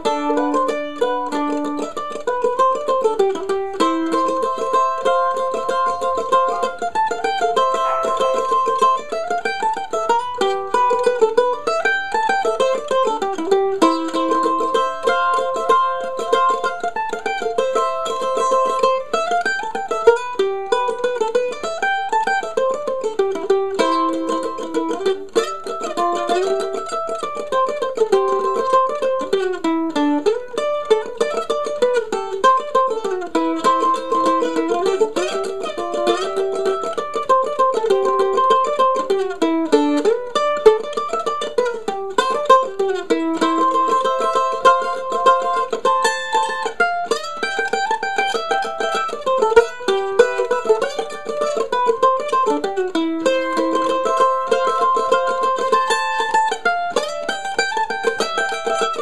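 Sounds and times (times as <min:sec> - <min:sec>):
mandolin picking a melody: 0:00.0 - 0:59.0.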